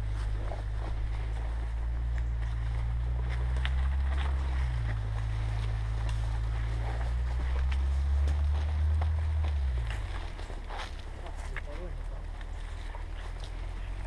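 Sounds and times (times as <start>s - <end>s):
footsteps in dry scrub: 0.0s - 14.0s
twigs brushing: 0.0s - 14.0s.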